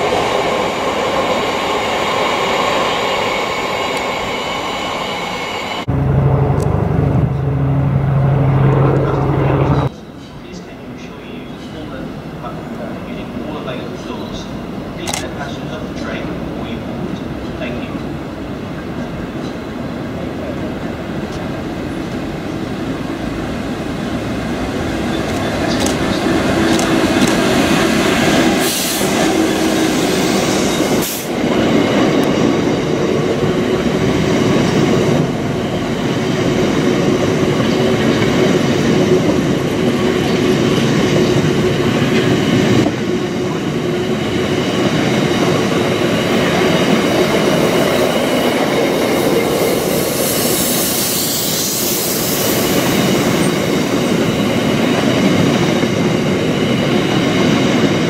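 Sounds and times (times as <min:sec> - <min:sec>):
diesel locomotive engine passing: 0:00.0 - 0:58.0.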